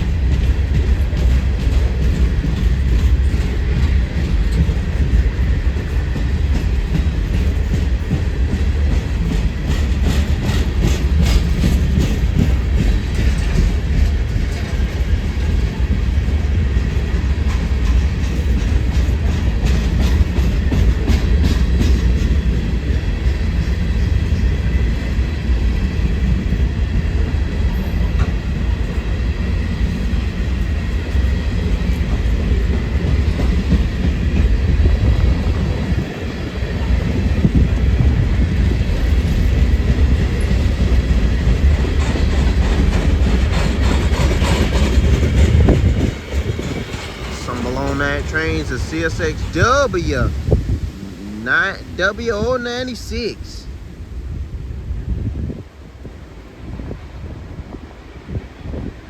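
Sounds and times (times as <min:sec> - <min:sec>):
train wheels clicking over rails: 0:00.0 - 0:53.9
wind buffeting microphone: 0:00.0 - 0:59.0.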